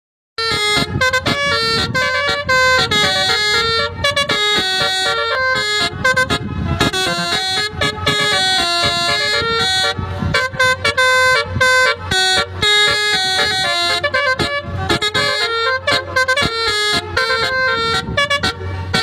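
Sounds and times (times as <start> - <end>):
multi-tone air horn melody: 0.4 - 19.0.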